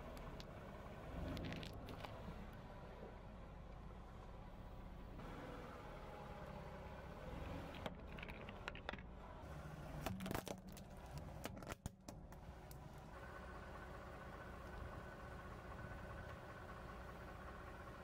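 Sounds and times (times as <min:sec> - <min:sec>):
low car hum: 0:00.0 - 0:18.0.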